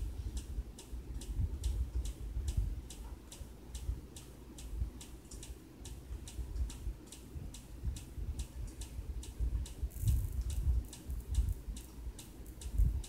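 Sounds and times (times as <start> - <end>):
steady ticking: 0.0 - 13.0.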